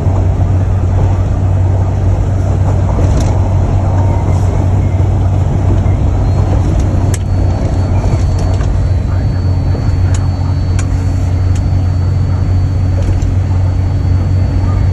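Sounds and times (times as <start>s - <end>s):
car engine and road drone: 0.0s - 14.9s.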